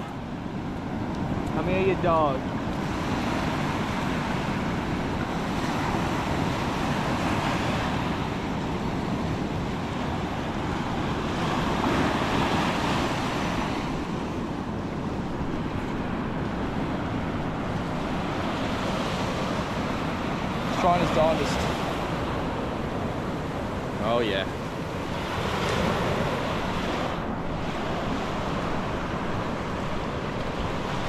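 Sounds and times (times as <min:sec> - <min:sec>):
ocean waves surf: 0:00.0 - 0:31.0
wind buffeting microphone: 0:00.0 - 0:31.0.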